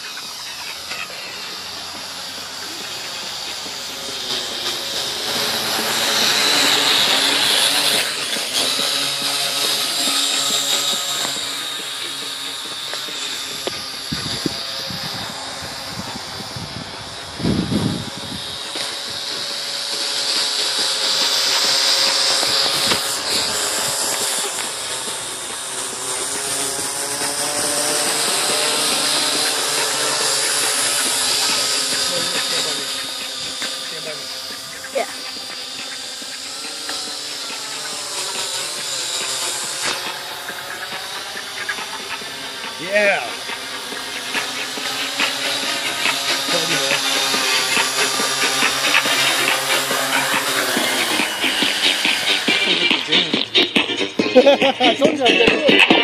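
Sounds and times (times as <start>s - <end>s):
drone propellers whirring: 0.0s - 56.0s
quadcopter motors buzzing: 0.0s - 56.0s.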